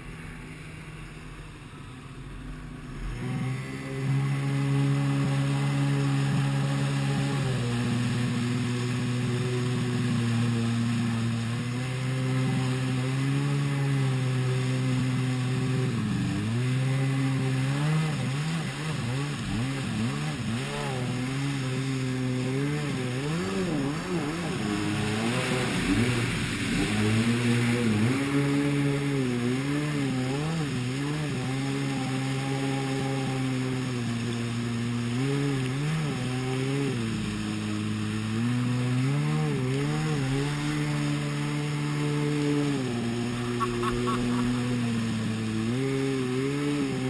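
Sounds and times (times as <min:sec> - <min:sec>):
jet ski engine running: 0:00.0 - 0:47.0
rushing water and wind: 0:00.0 - 0:47.0.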